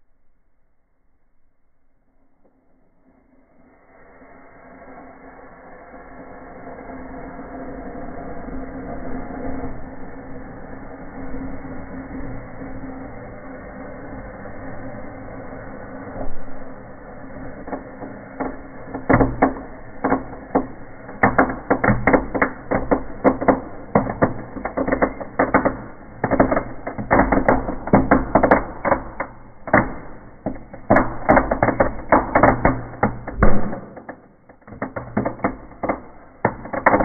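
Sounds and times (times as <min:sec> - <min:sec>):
steady low hum: 0:00.0 - 0:37.0
firework crackling and popping: 0:03.3 - 0:37.0.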